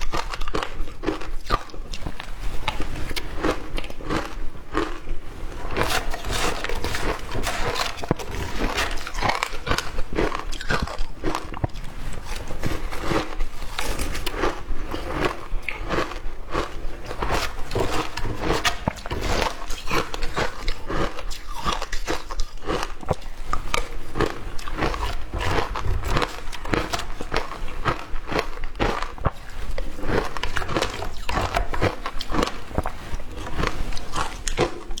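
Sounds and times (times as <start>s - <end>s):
chewing shaved ice crunches: 0.0s - 35.0s.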